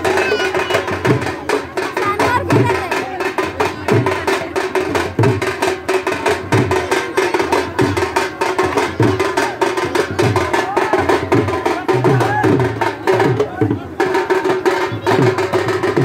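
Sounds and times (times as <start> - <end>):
fast loud drumming: 0.0 - 16.0.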